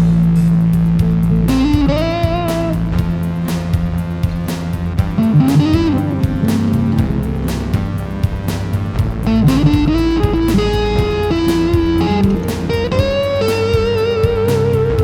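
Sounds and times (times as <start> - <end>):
rock music with electric guitar: 1.5 - 15.0.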